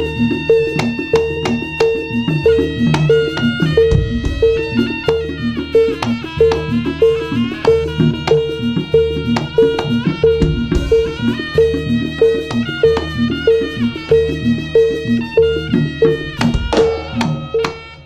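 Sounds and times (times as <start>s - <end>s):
gamelan music with drums: 0.0s - 18.0s.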